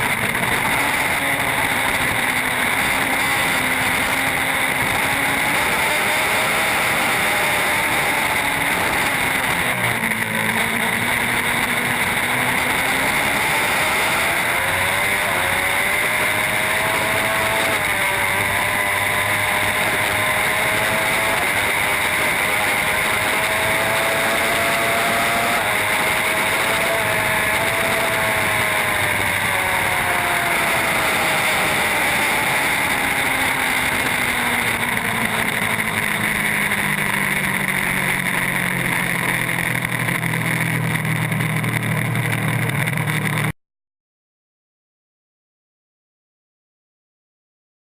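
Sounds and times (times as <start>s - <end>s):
racing motorcycle engine: 0.0s - 43.6s.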